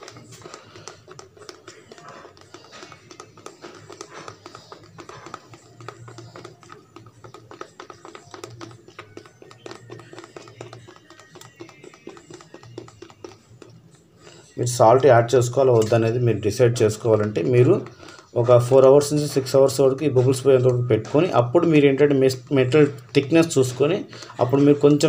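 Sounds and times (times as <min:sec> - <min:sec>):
background music: 0:00.0 - 0:25.0
plastic spoon stirring gel: 0:00.0 - 0:25.0.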